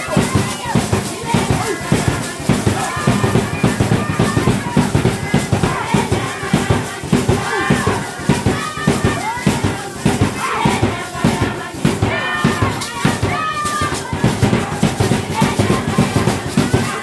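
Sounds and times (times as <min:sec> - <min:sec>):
group singing: 0:00.0 - 0:17.0
steady drum beat: 0:00.0 - 0:17.0.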